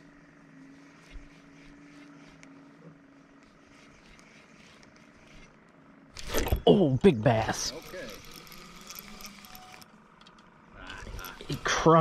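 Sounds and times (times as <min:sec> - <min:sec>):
faint motor hum: 0:00.0 - 0:12.0.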